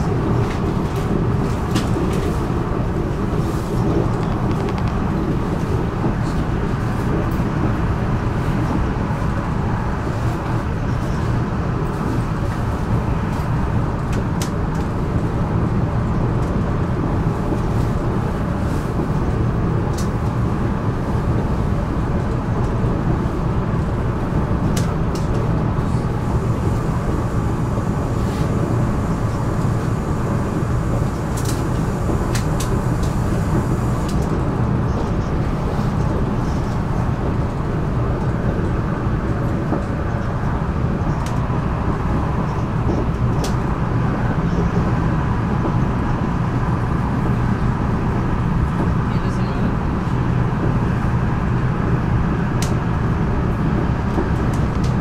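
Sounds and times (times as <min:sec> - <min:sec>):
train engine and rail rumble: 0:00.0 - 0:55.0.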